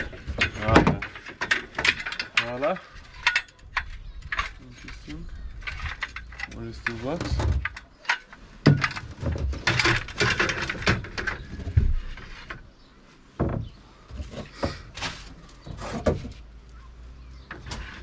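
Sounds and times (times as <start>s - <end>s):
objects knocking and scraping: 0.0s - 16.6s, 17.4s - 18.0s.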